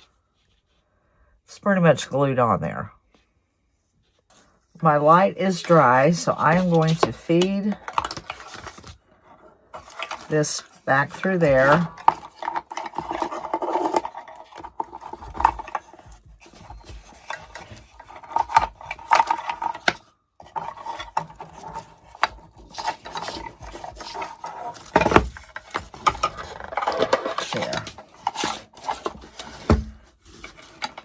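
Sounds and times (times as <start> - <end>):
handling clicks and rubbing: 5.2 - 31.0.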